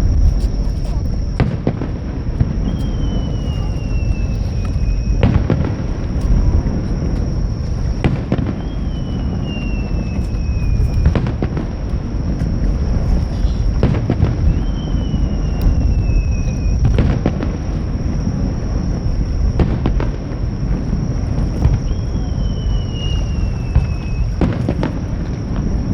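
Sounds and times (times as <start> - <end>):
continuous low rumble: 0.0 - 25.9
fireworks bursting: 0.0 - 25.9.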